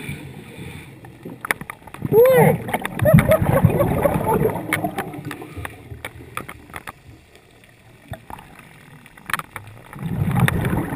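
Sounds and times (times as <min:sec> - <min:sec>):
underwater bubbles gurgling: 0:00.0 - 0:10.9
sharp underwater clicks: 0:01.0 - 0:10.9.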